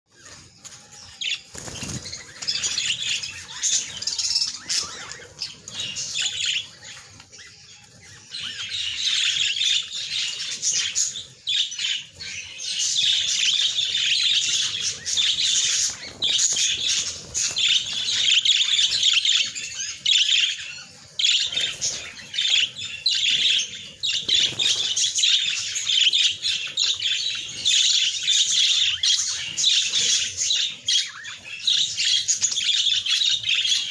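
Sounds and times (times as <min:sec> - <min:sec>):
flock of small birds twittering: 0:00.1 - 0:33.9.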